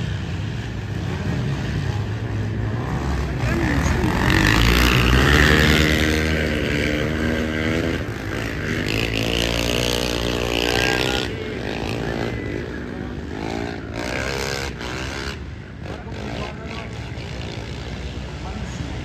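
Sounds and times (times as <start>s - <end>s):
quad bike engines revving: 0.0s - 19.0s.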